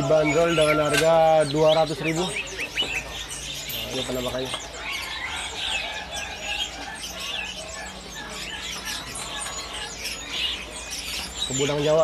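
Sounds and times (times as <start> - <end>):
songbirds chirping and calling: 0.0 - 12.0.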